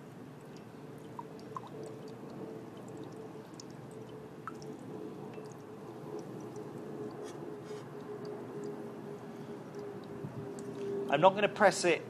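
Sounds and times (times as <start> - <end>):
coffee dripping into a cup: 0.0 - 11.0
faint steady hum: 0.0 - 12.0.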